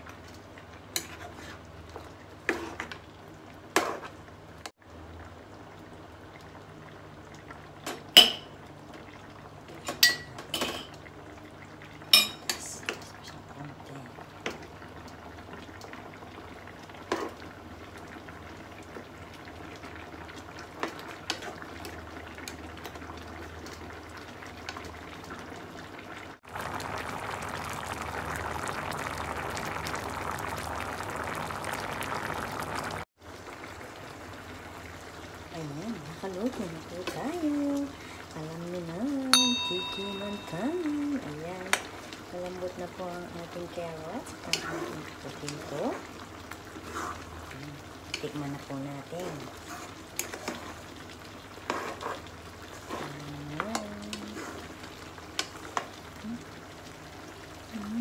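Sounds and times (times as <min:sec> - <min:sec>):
cream sauce bubbling: 0:00.0 - 0:09.8, 0:12.8 - 0:39.2, 0:40.0 - 0:58.0.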